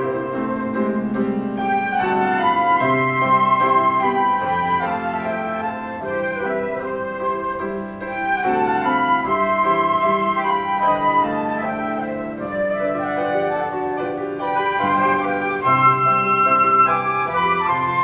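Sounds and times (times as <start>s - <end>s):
flute melody: 0.0s - 18.0s
piano accompaniment: 0.0s - 18.0s.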